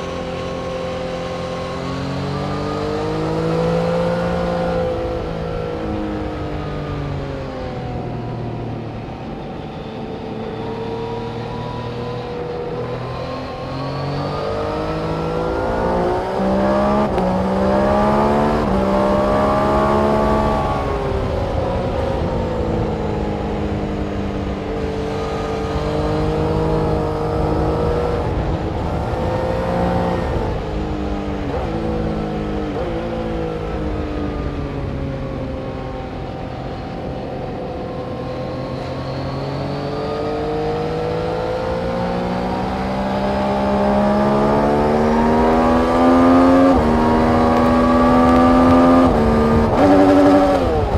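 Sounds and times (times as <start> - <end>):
race car engines lapping circuit: 0.0 - 50.9.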